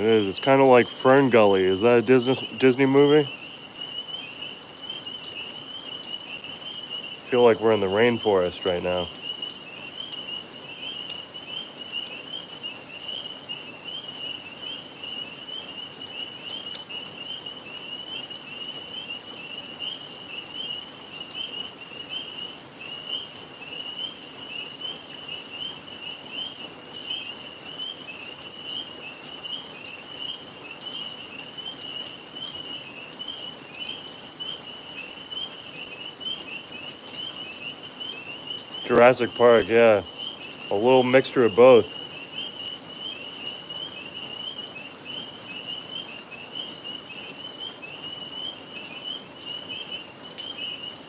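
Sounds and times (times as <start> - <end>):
rain pattering and dripping: 0.0 - 51.0
tree frogs trilling: 0.0 - 51.0.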